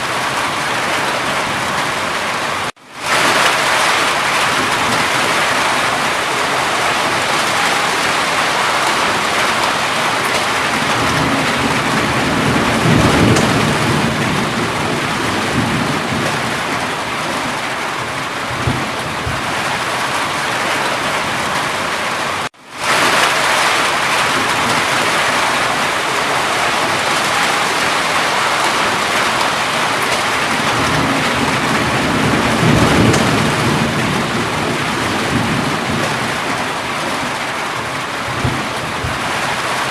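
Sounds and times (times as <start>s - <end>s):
heavy rain: 0.0s - 39.9s
thunder rumbles: 0.0s - 39.9s.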